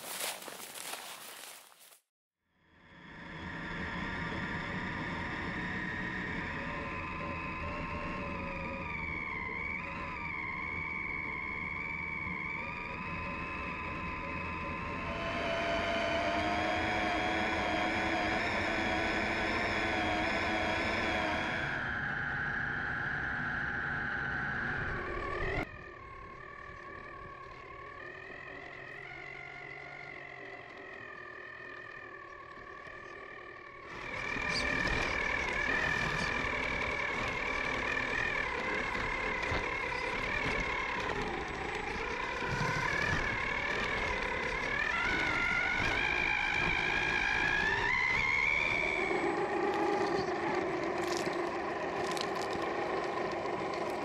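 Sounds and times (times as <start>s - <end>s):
electric motor whining: 2.9s - 54.0s.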